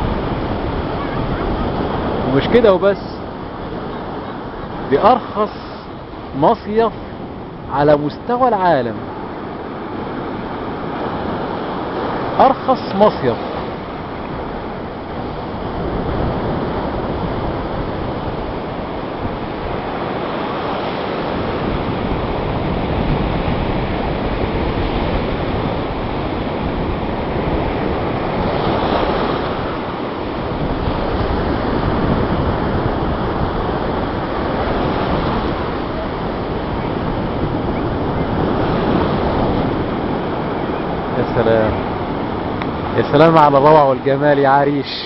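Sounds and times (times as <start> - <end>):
waves breaking on beach: 0.0 - 45.0
wind buffeting microphone: 0.0 - 45.0.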